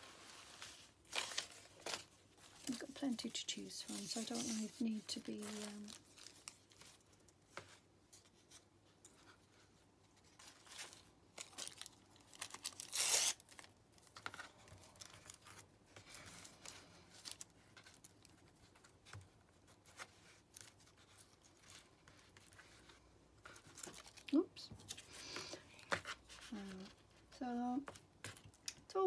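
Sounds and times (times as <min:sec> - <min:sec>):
paper rustling: 0:00.0 - 0:28.6.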